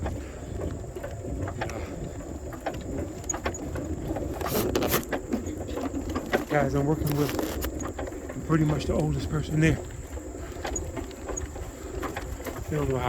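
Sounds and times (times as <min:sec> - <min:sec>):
light clicks and rattles: 0:00.0 - 0:13.0
tyre and wind rumble: 0:00.0 - 0:13.0.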